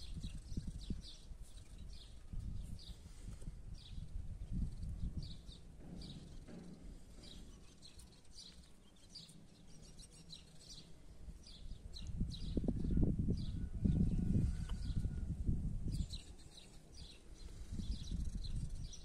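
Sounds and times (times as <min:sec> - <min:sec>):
small birds chirping: 0:00.0 - 0:15.2, 0:15.8 - 0:19.0.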